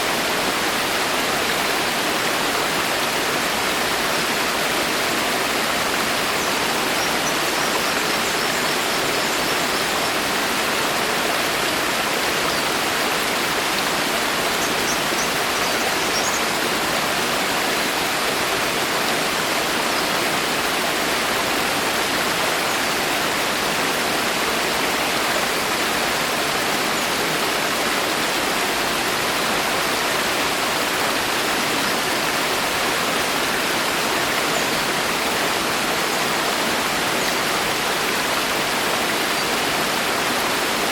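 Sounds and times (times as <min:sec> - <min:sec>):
rain falling in a forest: 0:00.0 - 0:40.9.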